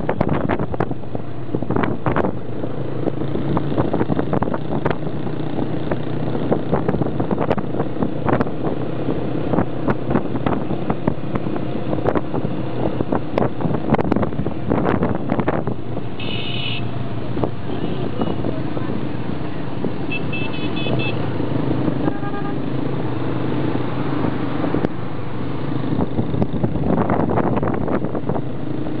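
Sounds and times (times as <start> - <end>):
wind buffeting microphone: 0.0 - 16.2, 16.9 - 29.0
motorcycle engines droning: 0.0 - 29.0.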